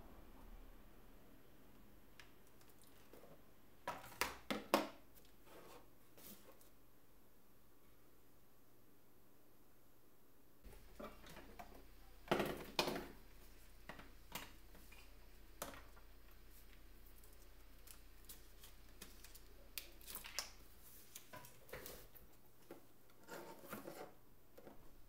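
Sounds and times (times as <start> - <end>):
faint low hum: 0.0 - 4.4, 5.0 - 25.0.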